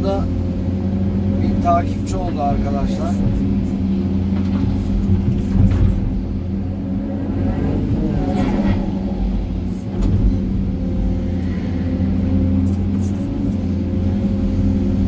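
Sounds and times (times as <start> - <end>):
excavator diesel engine under load: 0.0 - 15.0
hydraulics working: 0.0 - 15.0.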